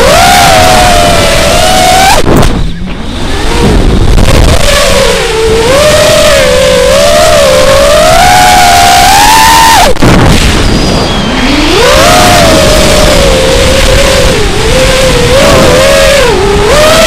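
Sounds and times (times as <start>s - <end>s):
model aircraft motor whine: 0.0s - 2.2s, 3.2s - 9.1s, 11.2s - 17.0s
wind rumbling on microphone: 0.0s - 17.0s.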